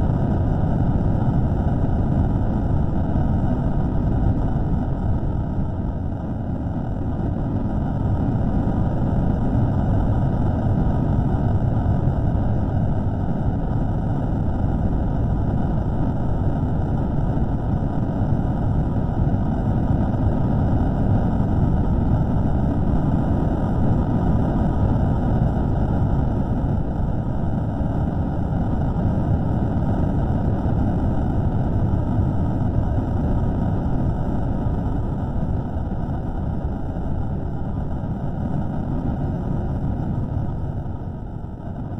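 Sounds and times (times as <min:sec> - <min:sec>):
steady low rumbling: 0:00.0 - 0:41.9.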